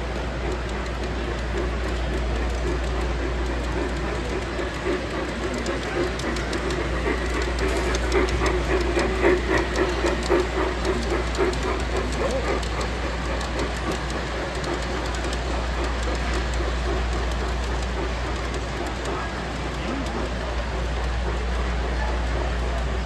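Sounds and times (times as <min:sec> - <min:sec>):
fine clicking: 0:00.0 - 0:23.0
model train running: 0:00.0 - 0:23.0.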